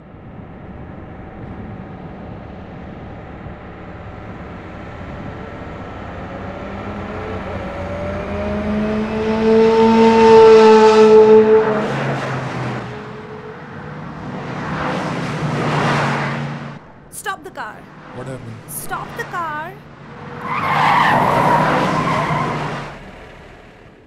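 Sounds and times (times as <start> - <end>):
car engine accelerating: 0.2 - 17.1, 19.8 - 24.0.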